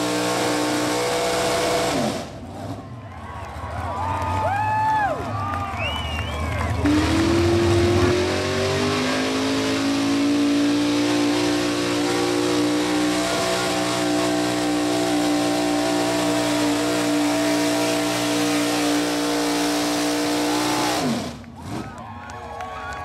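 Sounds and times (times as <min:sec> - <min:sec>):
truck engine at high rpm: 0:00.0 - 0:22.3.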